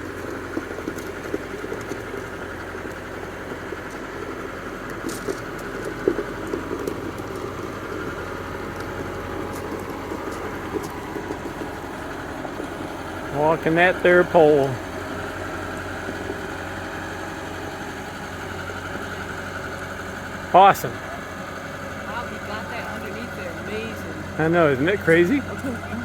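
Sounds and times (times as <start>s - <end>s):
machinery engine running: 0.0s - 26.0s.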